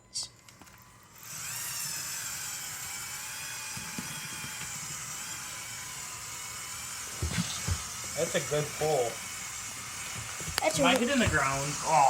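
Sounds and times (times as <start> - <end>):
toy electric motor whining: 0.0 - 12.0.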